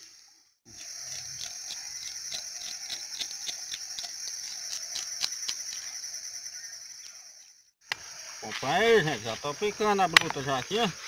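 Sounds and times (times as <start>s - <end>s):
high-pitched insect buzz: 0.0s - 11.0s.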